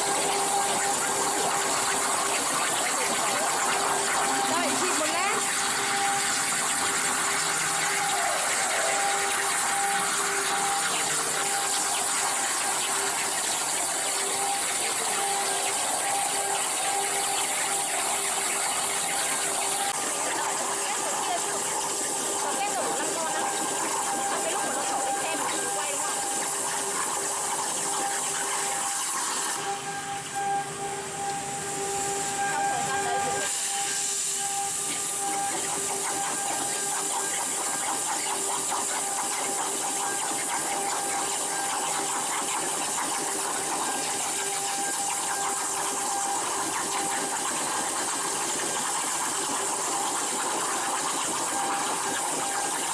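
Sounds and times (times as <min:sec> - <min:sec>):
plasma cutting torch hissing: 0:00.0 - 0:29.8, 0:30.8 - 0:52.9.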